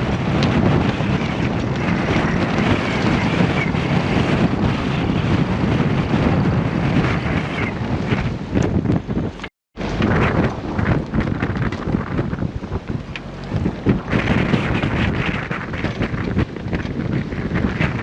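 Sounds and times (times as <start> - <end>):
water noise: 0.0 - 18.0
wind buffeting microphone: 0.0 - 18.0.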